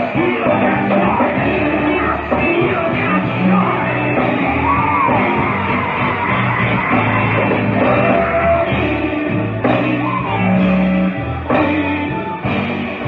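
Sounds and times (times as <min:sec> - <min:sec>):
live gospel band: 0:00.0 - 0:13.0
low bass line: 0:00.0 - 0:13.0
people singing and shouting: 0:00.0 - 0:13.0.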